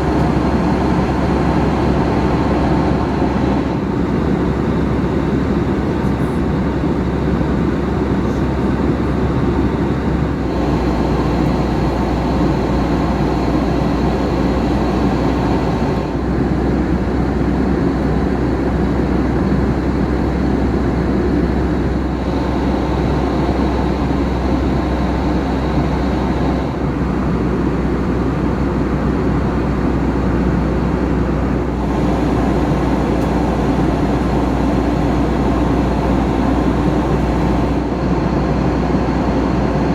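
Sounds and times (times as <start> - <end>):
aircraft engine drone: 0.0 - 39.9
airflow rush: 0.0 - 39.9
low cabin hum: 0.0 - 39.9.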